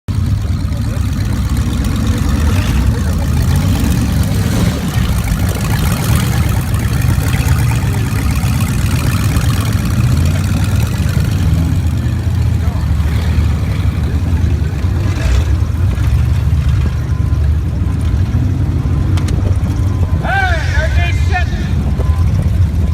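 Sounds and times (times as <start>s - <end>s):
truck engine running: 0.1s - 22.9s.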